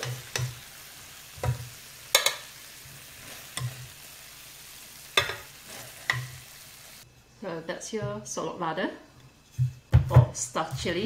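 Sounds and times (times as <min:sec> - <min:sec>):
faint sizzle of simmering: 0:00.0 - 0:11.0.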